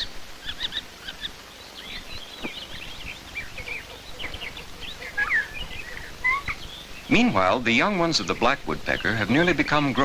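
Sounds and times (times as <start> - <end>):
nestlings chirping: 0.0 - 10.0
steady hiss: 0.0 - 10.0.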